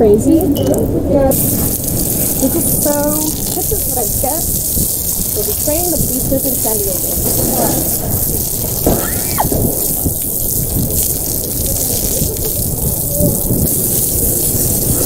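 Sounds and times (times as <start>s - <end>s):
shower water spraying: 0.0s - 15.0s.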